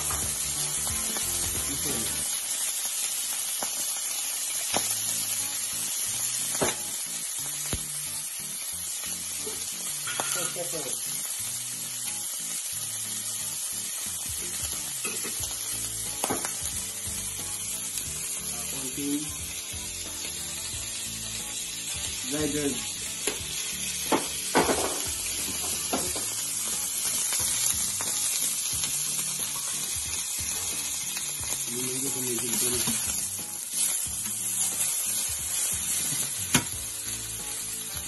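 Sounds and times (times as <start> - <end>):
steak sizzling in frying pan: 0.0 - 38.0.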